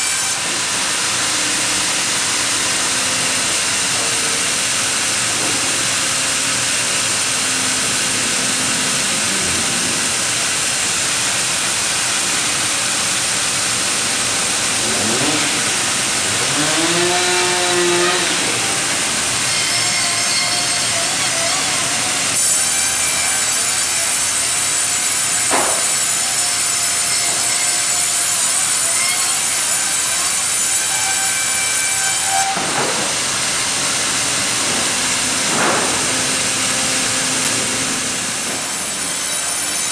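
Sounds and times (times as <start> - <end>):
bandsaw sawing through log: 0.0 - 12.9, 13.8 - 39.9.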